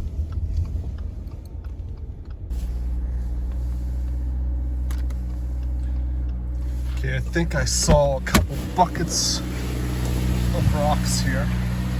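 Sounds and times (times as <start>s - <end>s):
road rumble: 0.0s - 11.9s
vehicle engine hum: 0.0s - 11.9s.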